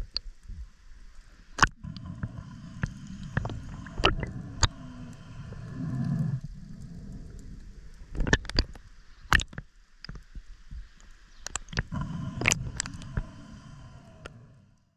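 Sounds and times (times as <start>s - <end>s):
faint steady hum: 0.0s - 14.9s
underwater rumble of moving water: 0.0s - 14.9s.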